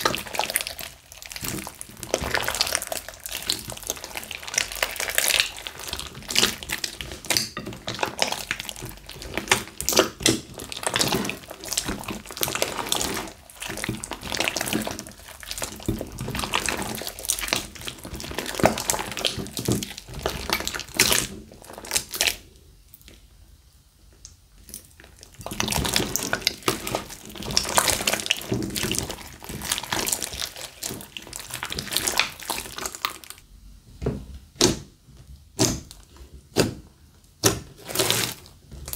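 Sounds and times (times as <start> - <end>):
hands squelching sticky slime: 0.0 - 22.4, 24.6 - 33.4, 35.5 - 38.9.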